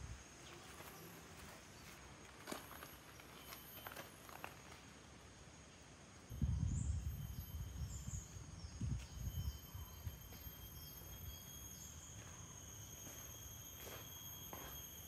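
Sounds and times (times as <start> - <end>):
high-pitched insect drone: 0.0 - 15.0
insect chirps: 0.0 - 15.0
lower insect tone: 0.0 - 15.0.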